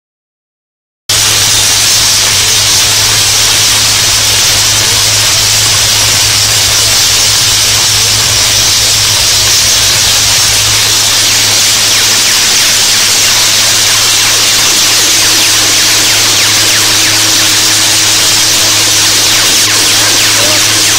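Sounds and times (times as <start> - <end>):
tesla coil crackling buzz: 1.1 - 20.9
low hum: 1.2 - 20.9.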